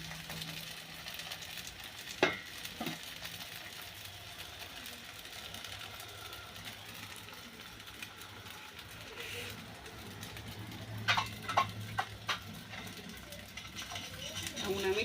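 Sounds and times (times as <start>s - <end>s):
pancakes sizzling in oil: 0.0s - 15.0s.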